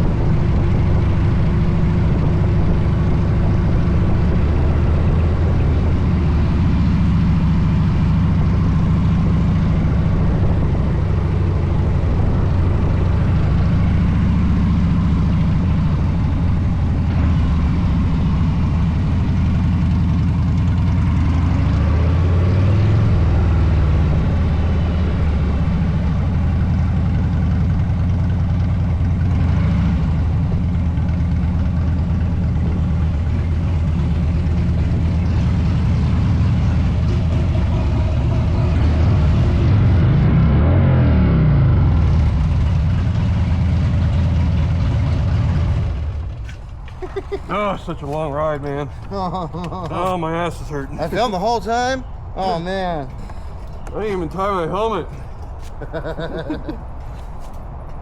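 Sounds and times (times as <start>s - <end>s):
motorcycle engine running: 0.0s - 50.2s.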